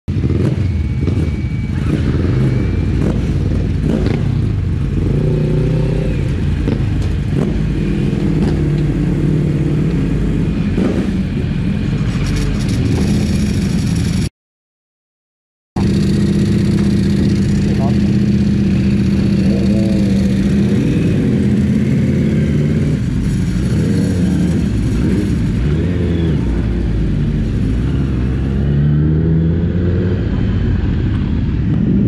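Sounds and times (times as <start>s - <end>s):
motorcycle engine revving: 0.1s - 14.3s, 15.8s - 32.0s.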